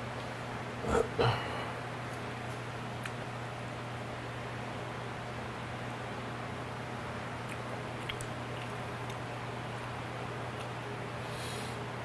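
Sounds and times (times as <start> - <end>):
low electrical hum: 0.0 - 12.0
room noise hiss: 0.0 - 12.0.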